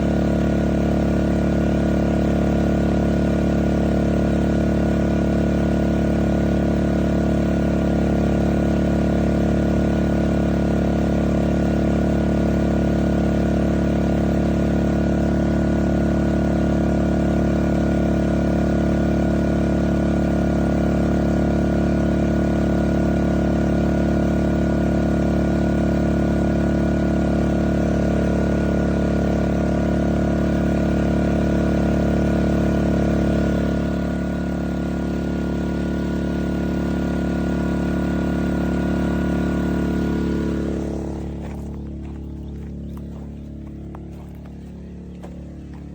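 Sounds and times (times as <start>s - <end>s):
portable generator running: 0.0s - 45.9s.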